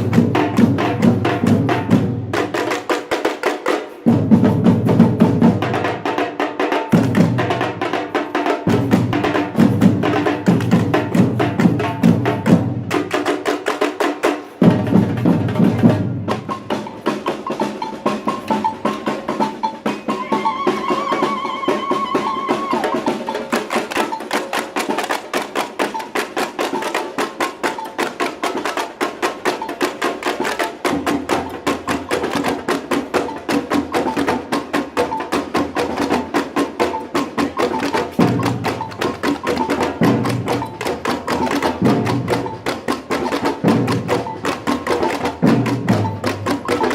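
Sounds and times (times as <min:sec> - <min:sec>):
samba percussion group drumming: 0:00.0 - 0:46.9.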